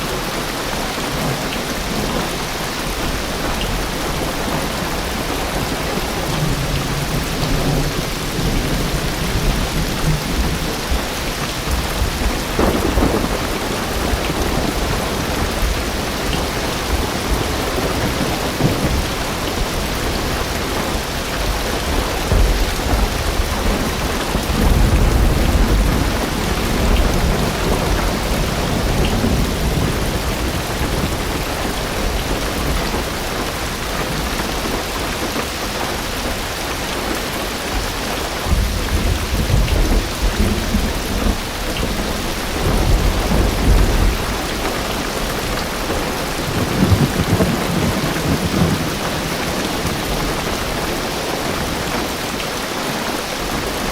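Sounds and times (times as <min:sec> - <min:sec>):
deep thunder rumbling: 0:00.0 - 0:52.3
heavy rain drumming on car roof: 0:00.0 - 0:53.9.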